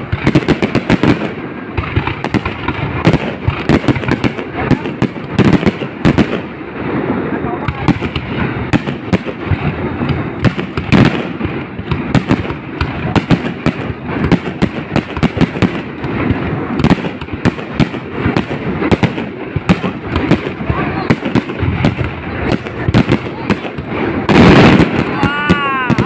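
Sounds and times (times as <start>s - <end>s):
crackling rumble: 0.0s - 26.0s
fireworks bursting: 0.0s - 26.0s.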